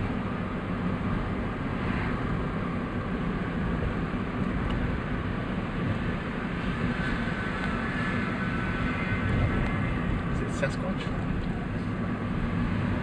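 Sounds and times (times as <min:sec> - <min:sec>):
car driving road noise: 0:00.0 - 0:13.0.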